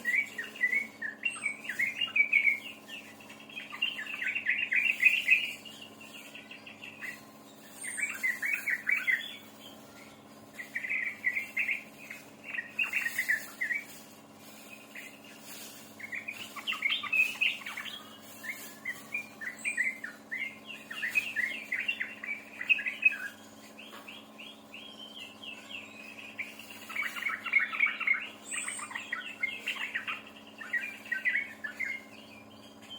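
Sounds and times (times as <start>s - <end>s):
faint steady hum: 0.0s - 32.9s
songbird singing: 0.0s - 32.9s.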